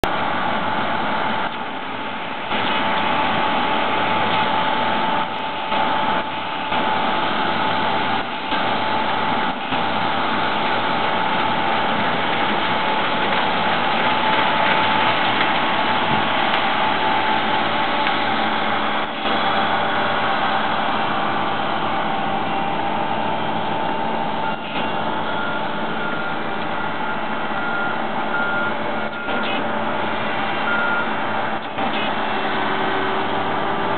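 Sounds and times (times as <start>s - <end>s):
combine harvester drone: 0.0s - 33.9s.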